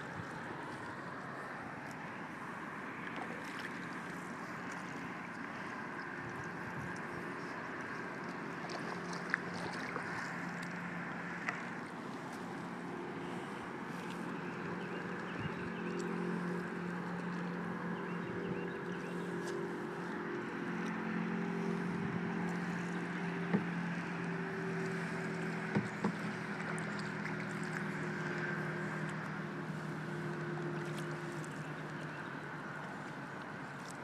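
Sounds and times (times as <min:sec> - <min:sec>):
constant rushing noise: 0:00.0 - 0:34.0
small boat motor humming: 0:00.0 - 0:34.0.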